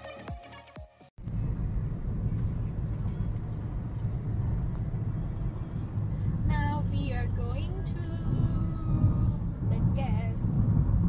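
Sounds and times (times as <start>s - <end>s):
car cabin road and engine rumble: 1.2s - 11.0s.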